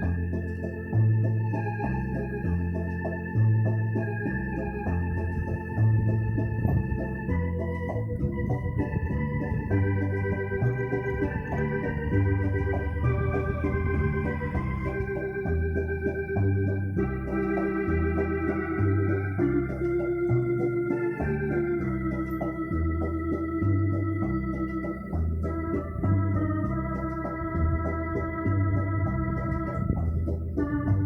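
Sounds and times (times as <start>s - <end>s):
electronic organ chords: 0.0s - 31.0s
organ bass line: 0.0s - 31.0s.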